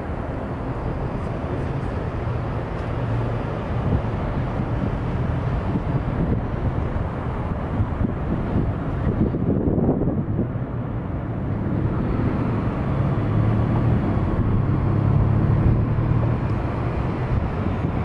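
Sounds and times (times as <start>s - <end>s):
boat engine drone: 0.0s - 18.0s
outdoor noise: 0.0s - 18.0s.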